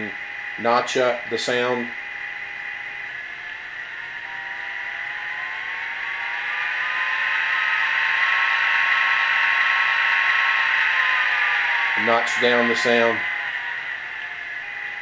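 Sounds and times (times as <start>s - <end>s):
diesel locomotive engine sound: 0.0s - 15.0s.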